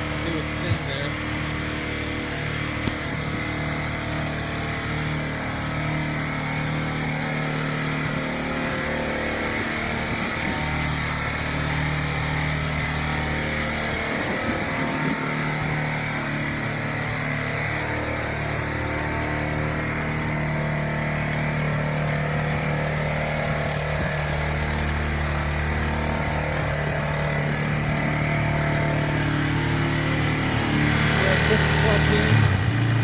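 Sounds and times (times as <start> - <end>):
engine at high fast idle: 0.0 - 33.0.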